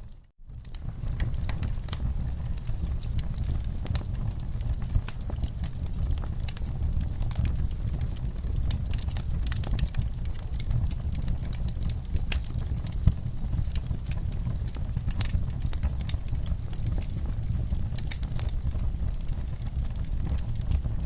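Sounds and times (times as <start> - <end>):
fire crackling snaps: 0.0 - 21.0
fire low rumble: 0.0 - 21.0
wood fire popping: 0.0 - 21.0.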